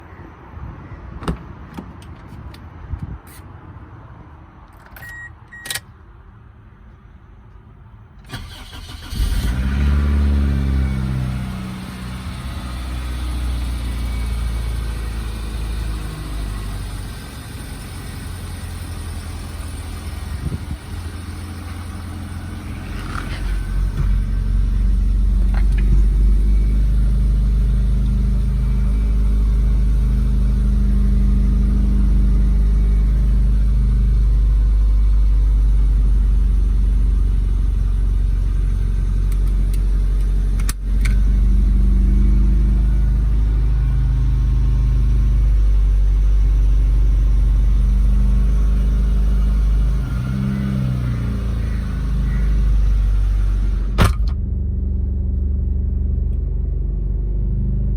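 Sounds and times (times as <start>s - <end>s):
car road and engine rumble: 0.0s - 57.9s.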